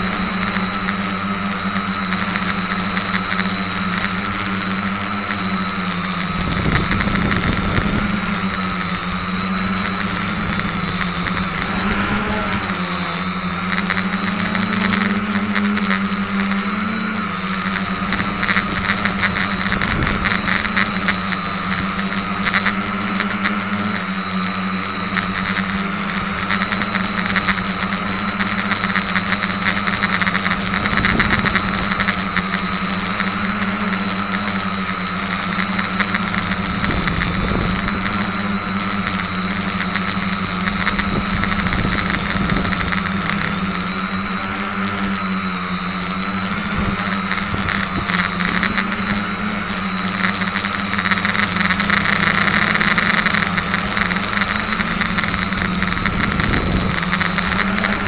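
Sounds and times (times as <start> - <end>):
crackling: 0.0 - 58.0
quadcopter motors whirring: 0.0 - 58.0.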